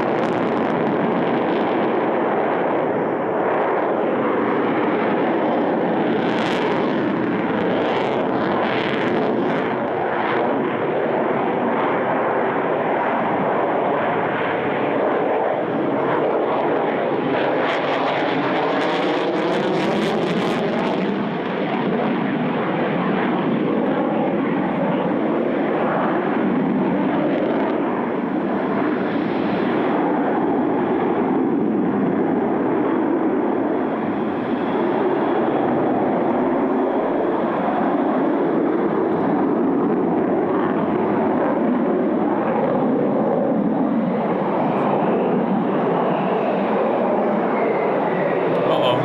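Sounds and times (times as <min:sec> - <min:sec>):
faint jet whine: 0:00.0 - 0:39.3
jet engine roar: 0:00.0 - 0:49.0.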